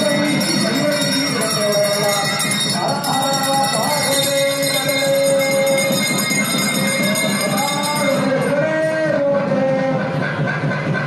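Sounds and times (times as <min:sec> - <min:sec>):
hand bell ringing: 0:00.0 - 0:09.0
man singing through loudspeaker: 0:00.0 - 0:11.0.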